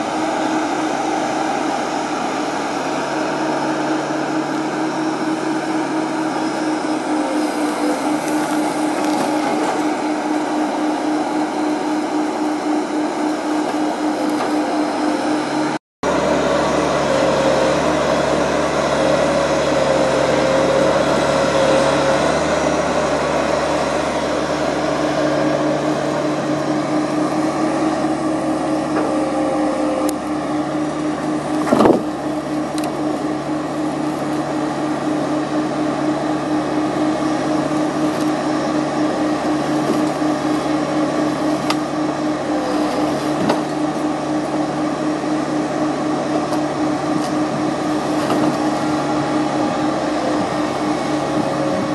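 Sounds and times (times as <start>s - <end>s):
diesel engine running under load: 0.0s - 51.9s
wavering whine: 0.0s - 51.9s.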